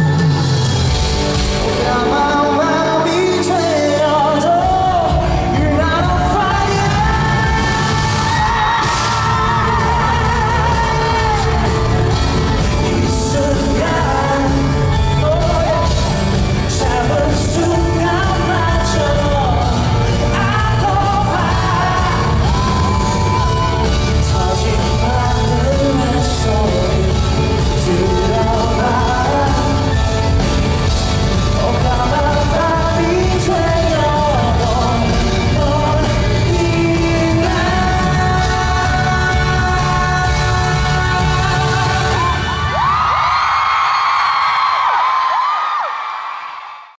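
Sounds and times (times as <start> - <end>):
live pop-rock band: 0.0 - 46.4
fans yelling and cheering: 0.0 - 46.9
man singing into a microphone: 1.6 - 43.2
drums playing: 4.6 - 43.2.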